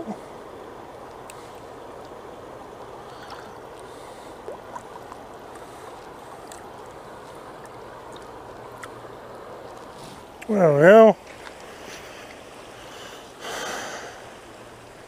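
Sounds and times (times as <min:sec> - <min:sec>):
river current rushing: 0:00.0 - 0:15.0.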